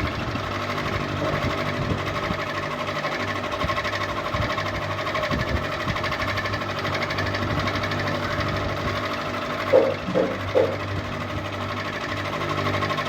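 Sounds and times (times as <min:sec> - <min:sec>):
ceiling fan running: 0:00.0 - 0:13.0.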